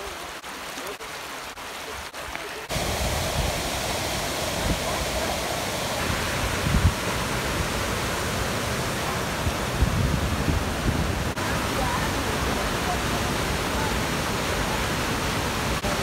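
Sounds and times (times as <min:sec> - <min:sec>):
river running: 0:00.0 - 0:16.0
waterfall rushing into pool: 0:00.0 - 0:16.0.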